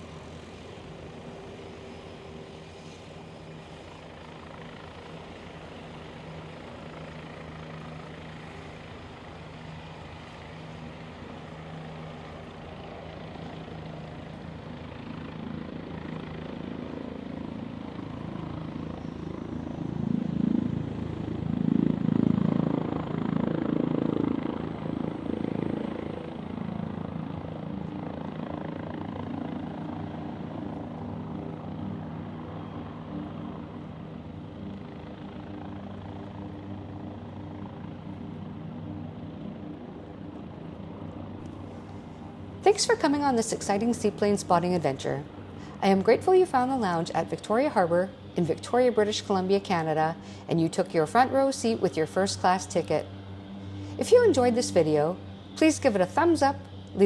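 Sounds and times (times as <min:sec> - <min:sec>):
propeller engine running: 0:00.0 - 0:57.0.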